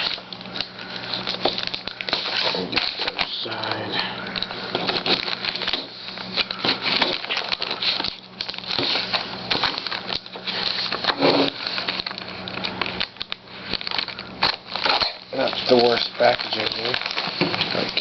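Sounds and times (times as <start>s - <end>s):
packaging crinkling and tearing: 0.0s - 18.0s.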